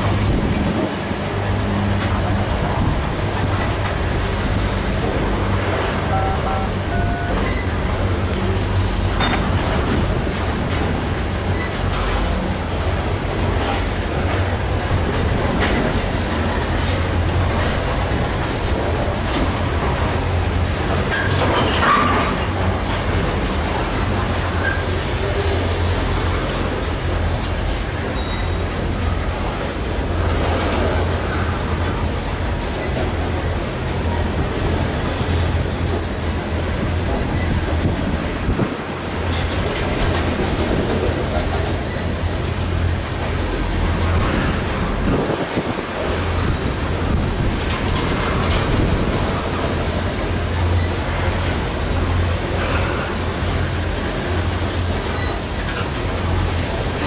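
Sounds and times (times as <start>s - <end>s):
train wheels rumbling on rail: 0.0s - 57.0s
wheels clicking over rail joints: 0.0s - 57.0s.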